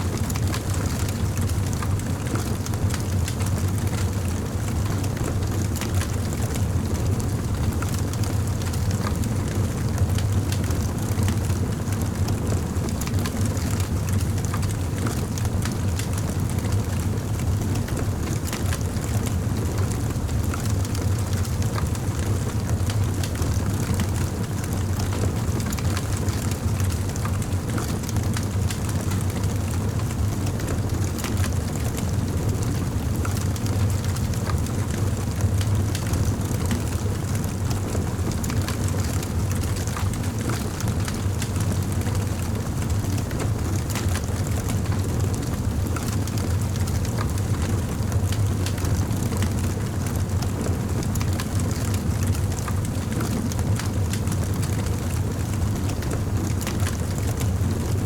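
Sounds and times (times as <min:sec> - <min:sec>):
campfire crackling with low roar: 0:00.0 - 0:58.0.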